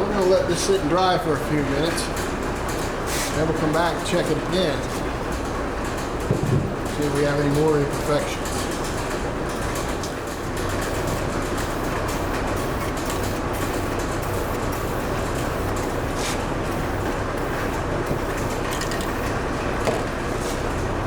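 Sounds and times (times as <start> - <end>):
mechanical drone with low hum: 3.5 - 21.0.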